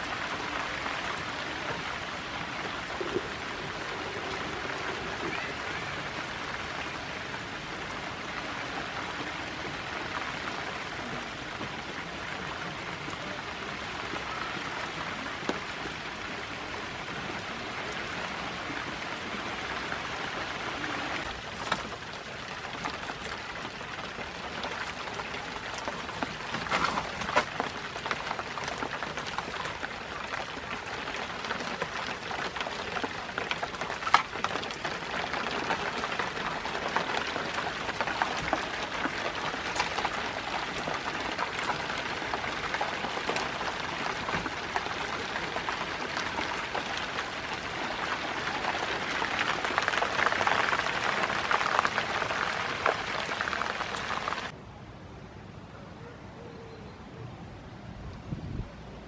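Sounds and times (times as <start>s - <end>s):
sharp taps of raindrops: 0.0s - 54.6s
steady rain: 0.0s - 54.6s.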